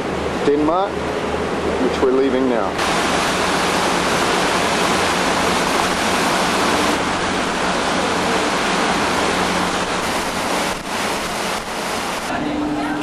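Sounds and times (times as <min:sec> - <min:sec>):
wind and water rushing: 0:00.0 - 0:12.6
steady low hum: 0:00.0 - 0:13.0.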